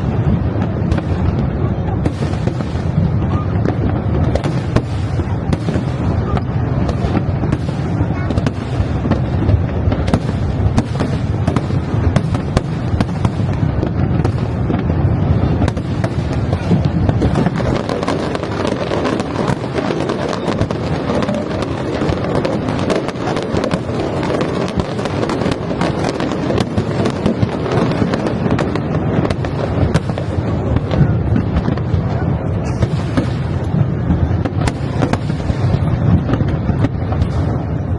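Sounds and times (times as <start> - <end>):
deep fireworks booms: 0.0 - 37.9
fireworks bursting and crackling: 0.0 - 37.9.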